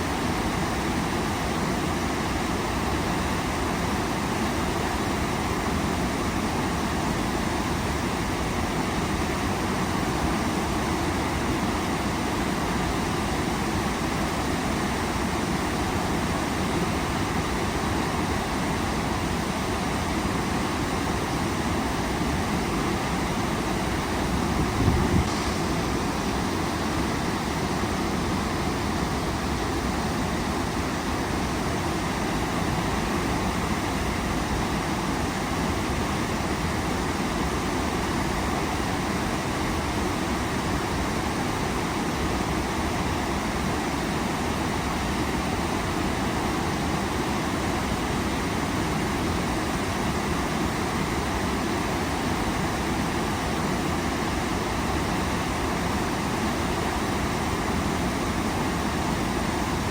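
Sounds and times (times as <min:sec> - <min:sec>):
waterfall roar: 0:00.0 - 0:59.9.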